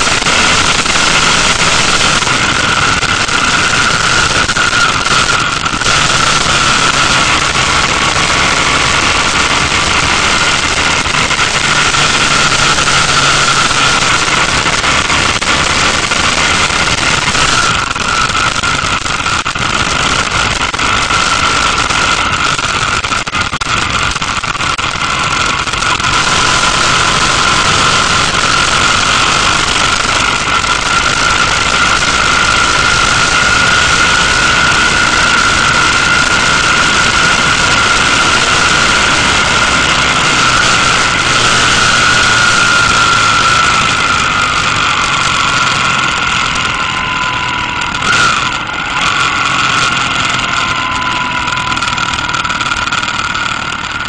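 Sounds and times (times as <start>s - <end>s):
wind rushing over microphone: 0.0s - 53.0s
high whine: 0.0s - 54.0s
motorcycle engine cruising: 0.0s - 54.0s.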